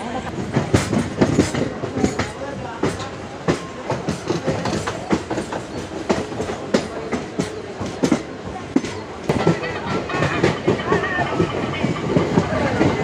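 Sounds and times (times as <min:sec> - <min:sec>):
train rumble: 0:00.0 - 0:13.0
wheels clacking over rail joints: 0:00.5 - 0:13.0.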